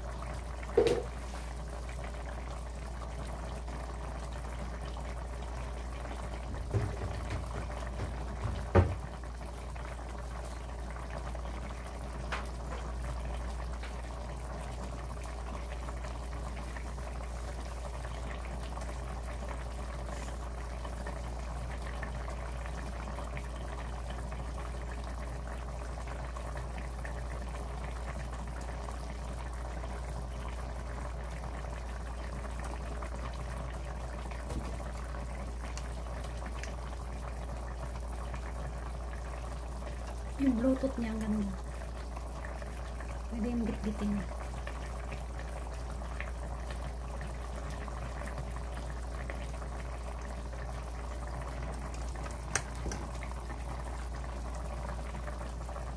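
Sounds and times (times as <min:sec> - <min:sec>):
stew bubbling in a pot: 0:00.0 - 0:55.9.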